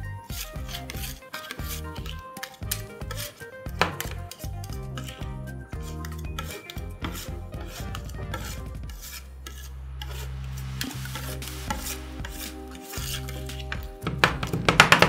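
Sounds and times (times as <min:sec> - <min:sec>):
metal spatulas scraping cold plate: 0:00.2 - 0:05.2, 0:05.8 - 0:13.8.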